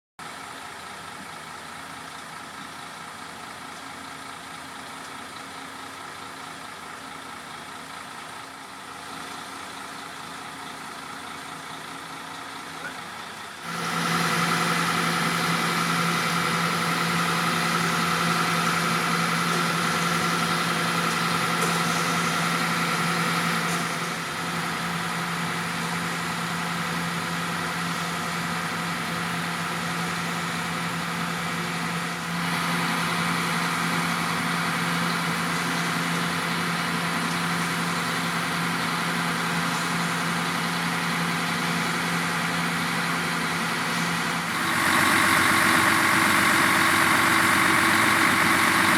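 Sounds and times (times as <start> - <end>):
truck diesel engine hum: 0.2 - 48.9.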